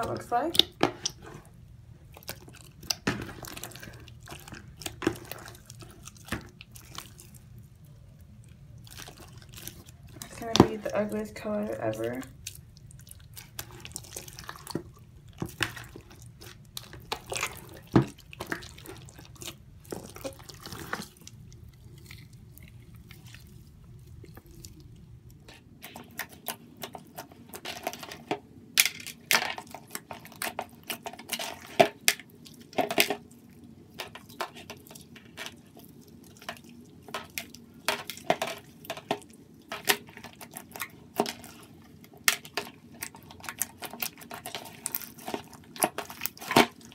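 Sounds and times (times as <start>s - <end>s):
slime squishing with wet pops: 0.0s - 46.9s.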